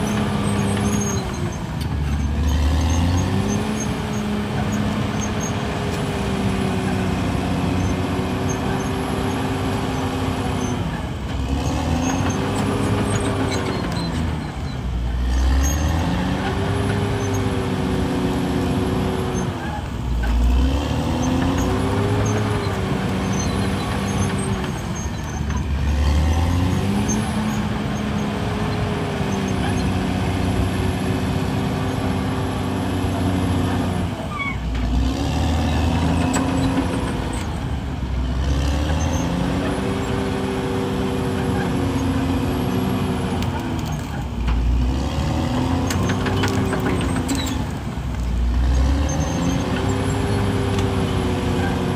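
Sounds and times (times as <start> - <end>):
bulldozer diesel engine under load: 0.0 - 51.9.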